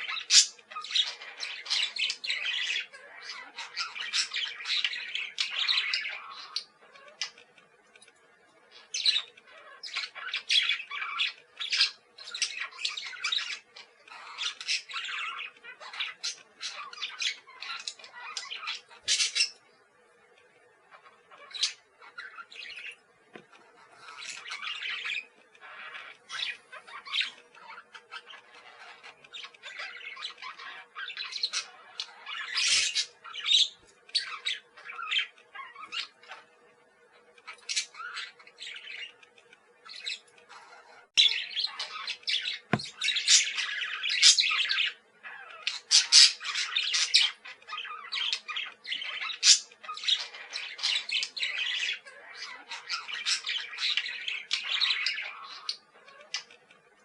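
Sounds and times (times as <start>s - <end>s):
parakeets chattering: 0.0s - 7.8s, 8.7s - 57.0s.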